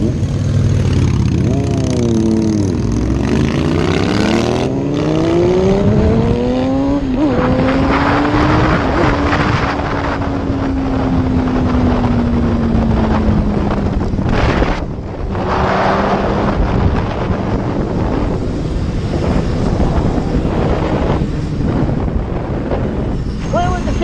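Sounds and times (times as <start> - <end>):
sport bike engine accelerating: 0.0 - 24.0
wind rushing over microphone: 0.0 - 24.0.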